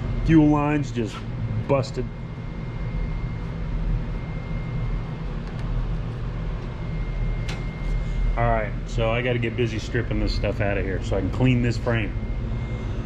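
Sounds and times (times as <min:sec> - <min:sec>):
heater fan hum and whine: 0:00.0 - 0:13.0.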